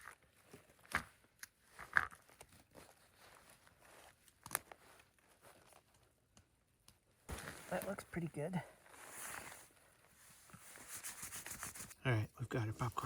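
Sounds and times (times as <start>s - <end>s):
rustling of hands and clothing: 0.0s - 6.6s, 7.2s - 12.0s.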